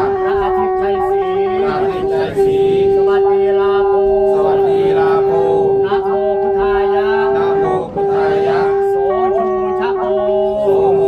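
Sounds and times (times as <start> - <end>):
loud steady drone note: 0.0 - 11.0
person singing: 0.0 - 11.0
wavering melody: 0.0 - 11.0.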